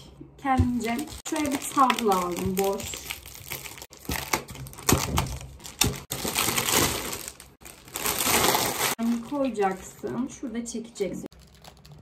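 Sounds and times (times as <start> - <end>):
plastic bag crinkling: 0.8 - 10.5, 11.3 - 12.0.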